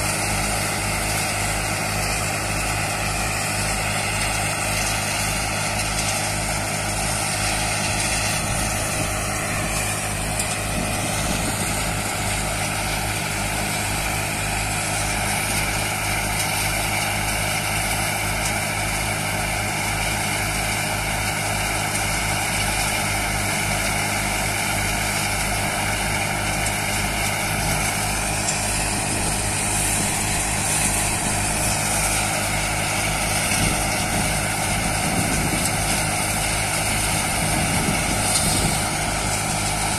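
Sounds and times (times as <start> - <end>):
thresher humming: 0.0 - 39.9
tractor diesel engine running: 0.0 - 39.9.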